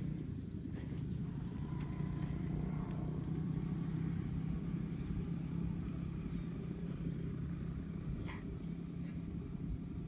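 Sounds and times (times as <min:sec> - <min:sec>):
engine running low hum: 0:00.0 - 0:10.0.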